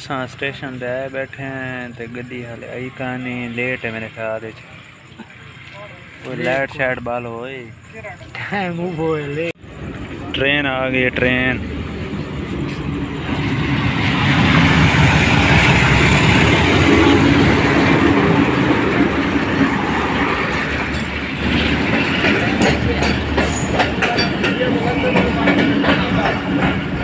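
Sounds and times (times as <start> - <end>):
train clanking: 0.0 - 27.0
train rumbling past: 0.0 - 27.0.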